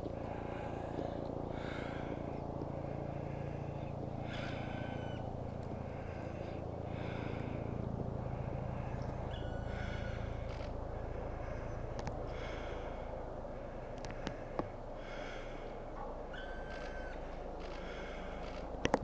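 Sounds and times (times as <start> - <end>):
woodpecker calling: 0.0 - 13.1, 13.7 - 19.0
low rumble: 0.0 - 19.0.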